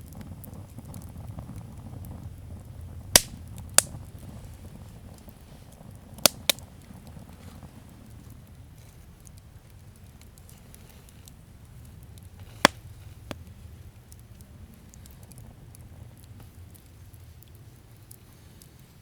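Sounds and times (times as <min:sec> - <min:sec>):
campfire crackling: 0:00.0 - 0:19.0
wood fire snap: 0:00.0 - 0:19.0.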